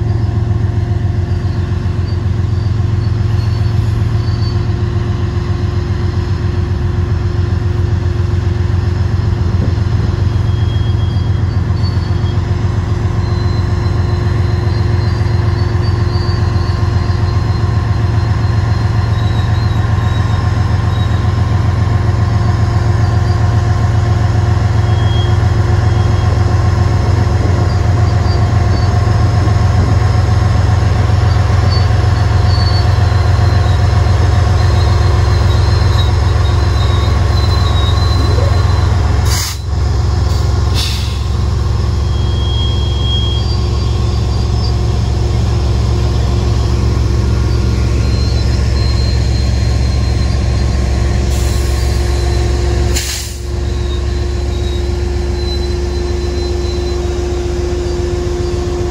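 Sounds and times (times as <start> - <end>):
diesel locomotive rumbling: 0.0 - 58.9.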